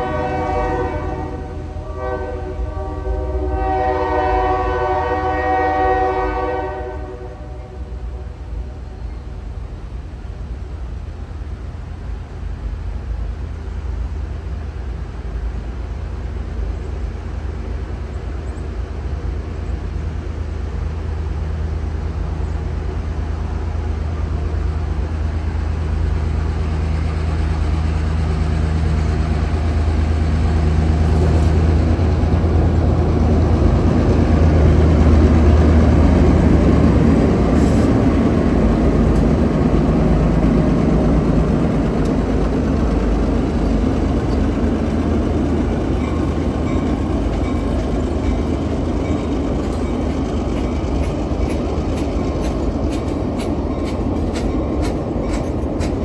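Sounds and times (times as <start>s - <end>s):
passenger train running: 0.0s - 56.0s.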